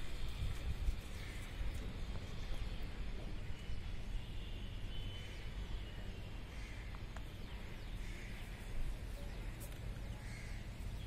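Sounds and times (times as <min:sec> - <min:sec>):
distant bird calls: 0:01.0 - 0:11.0.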